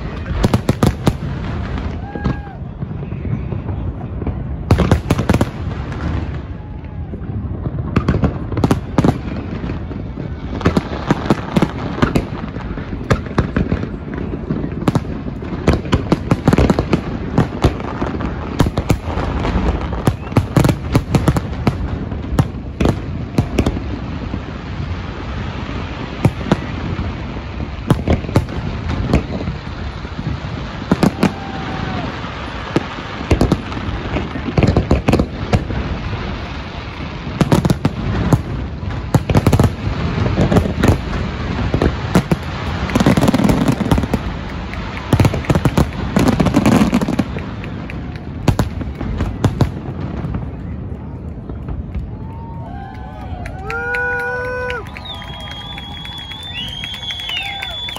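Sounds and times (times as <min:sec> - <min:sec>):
fireworks booming and crackling: 0:00.0 - 0:57.9.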